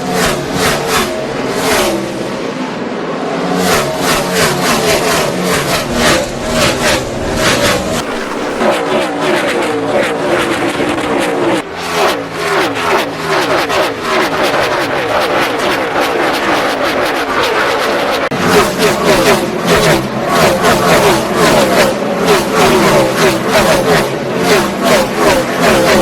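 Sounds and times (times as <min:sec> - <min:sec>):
race cars passing at full throttle: 0:00.0 - 0:26.0.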